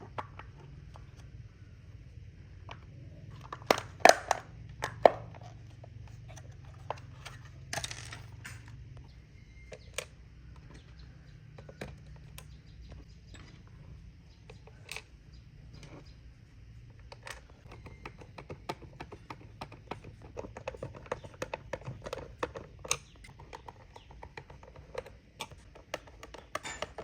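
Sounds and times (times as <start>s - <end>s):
faint low hum: 0.0s - 27.0s
hard objects knocking and clicking: 2.6s - 15.1s, 17.0s - 27.0s.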